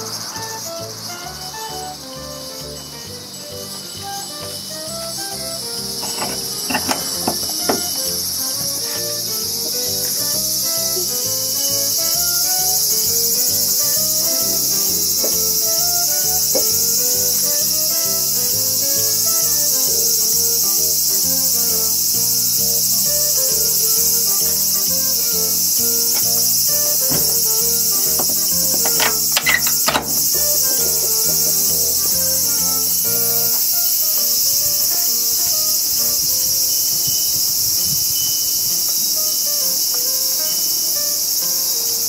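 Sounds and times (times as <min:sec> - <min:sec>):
insect chorus shrilling: 0:00.0 - 0:42.0
soft background music: 0:00.0 - 0:42.0.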